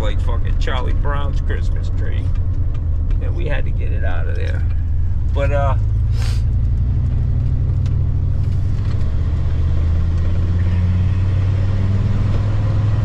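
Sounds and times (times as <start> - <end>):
vehicle engine and road drone: 0.0 - 13.0.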